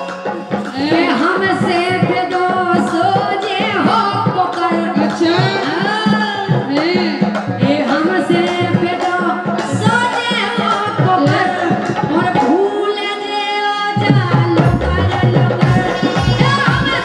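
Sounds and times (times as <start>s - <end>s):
hand drum beat: 0.0s - 12.6s, 14.0s - 17.0s
person singing into microphone: 0.0s - 17.0s.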